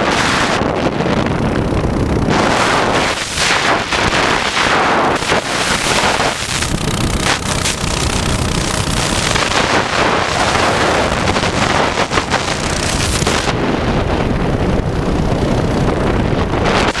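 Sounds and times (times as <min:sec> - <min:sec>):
small engine running: 0:00.0 - 0:17.0
wind buffeting microphone: 0:00.0 - 0:17.0.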